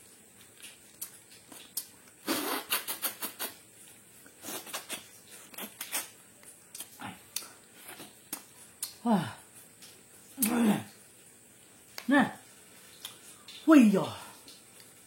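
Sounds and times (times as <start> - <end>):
person chewing with lip smacks: 0.3 - 10.6, 11.8 - 13.7.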